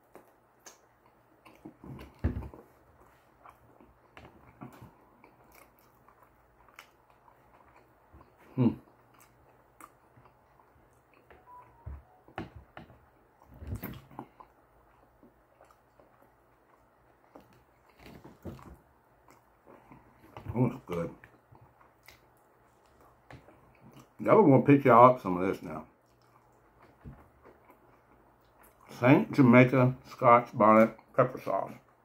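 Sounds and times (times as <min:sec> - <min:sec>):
person chewing food: 0:00.0 - 0:24.2, 0:26.0 - 0:28.9.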